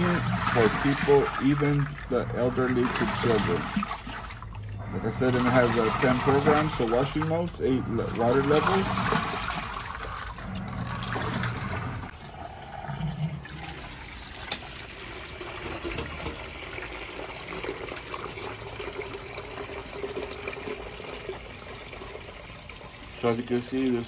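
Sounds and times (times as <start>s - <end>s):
water pouring into plastic bucket: 0.0s - 12.2s, 13.4s - 24.0s.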